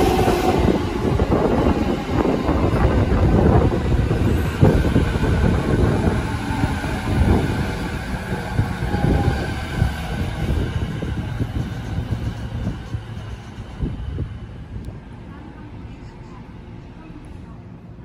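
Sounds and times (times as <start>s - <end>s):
electric train rumbling past: 0.0s - 18.0s.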